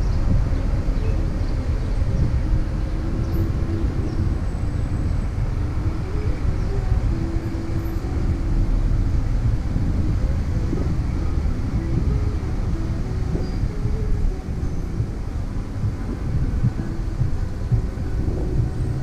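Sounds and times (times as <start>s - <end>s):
faint hum: 0.0s - 19.0s
wind rumbling on microphone: 0.0s - 19.0s.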